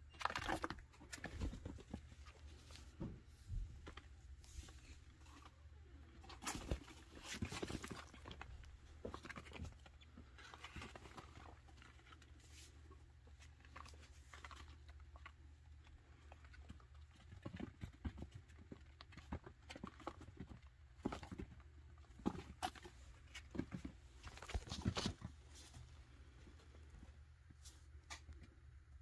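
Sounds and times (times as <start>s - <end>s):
small animals pattering on cloth: 0.0s - 28.4s.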